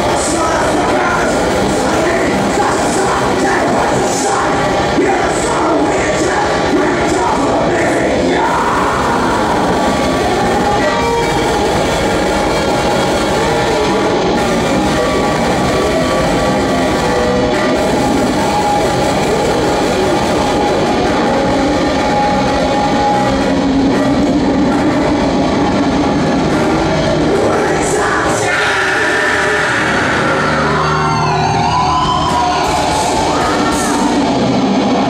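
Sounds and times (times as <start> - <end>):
heavy metal band playing: 0.0 - 35.0.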